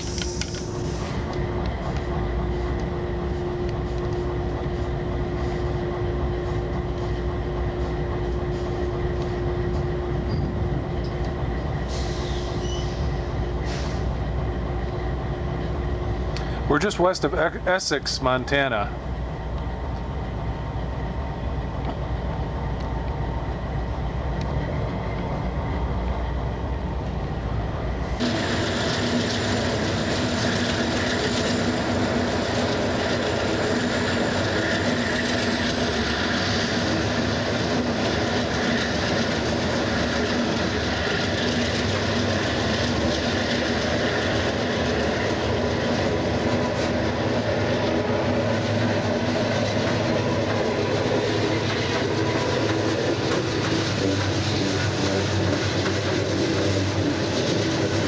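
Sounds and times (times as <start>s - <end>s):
freight train rumbling: 0.0s - 58.0s
high-pitched rail noise: 0.0s - 58.0s.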